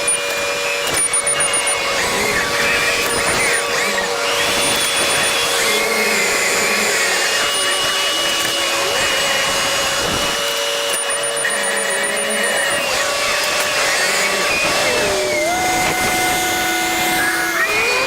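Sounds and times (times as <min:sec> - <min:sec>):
whirring drone: 0:00.0 - 0:18.0.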